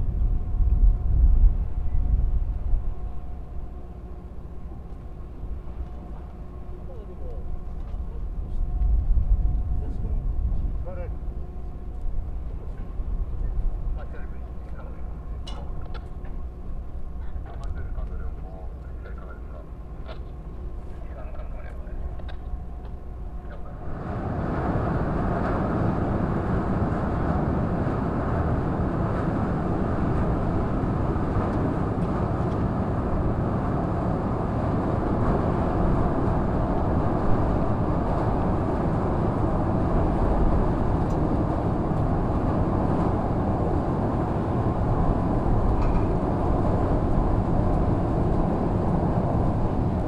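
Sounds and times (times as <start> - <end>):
ferry engines rumbling: 0.0 - 50.0.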